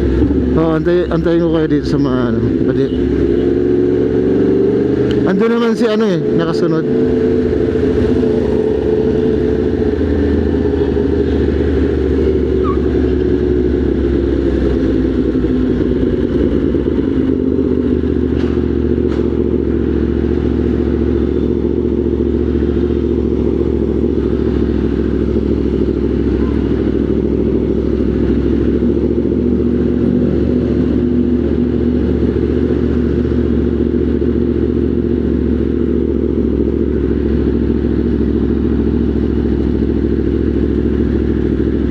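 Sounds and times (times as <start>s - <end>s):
motorcycle engine at low revs: 0.0s - 41.9s.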